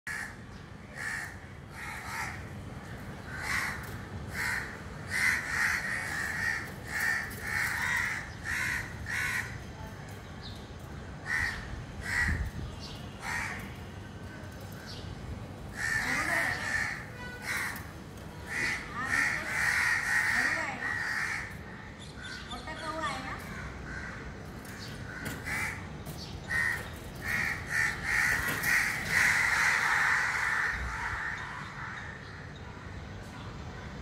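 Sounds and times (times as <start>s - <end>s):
birds cawing: 0.1s - 9.7s, 11.1s - 14.0s, 15.6s - 33.0s.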